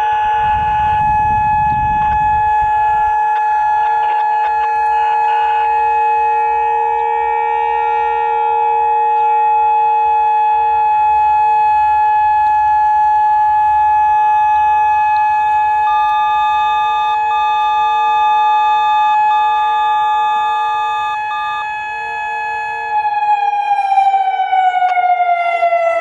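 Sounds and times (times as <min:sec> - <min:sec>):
higher siren tone: 0:00.0 - 0:26.0
outdoor warning siren: 0:00.0 - 0:26.0.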